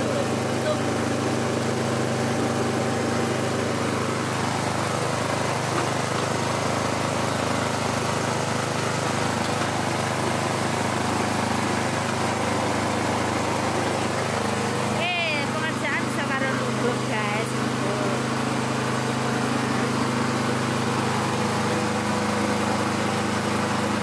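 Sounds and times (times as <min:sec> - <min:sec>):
small engine grinder humming: 0:00.0 - 0:24.0.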